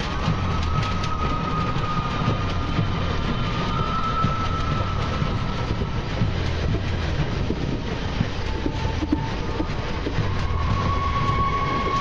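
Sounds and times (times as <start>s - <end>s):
train rumble: 0.0s - 12.0s
wheels clattering on track: 0.0s - 12.0s.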